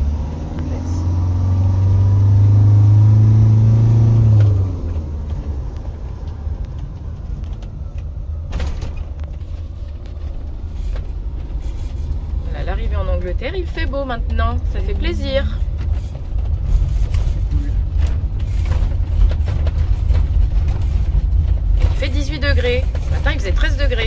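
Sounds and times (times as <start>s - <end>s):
motorhome engine under load: 0.0s - 24.0s
vehicle rolling rumble: 0.0s - 24.0s.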